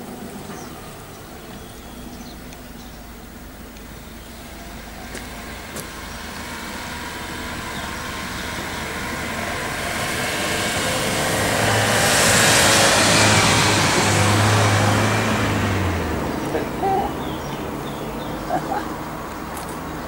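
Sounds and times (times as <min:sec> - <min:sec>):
car approaching: 0:00.0 - 0:20.0.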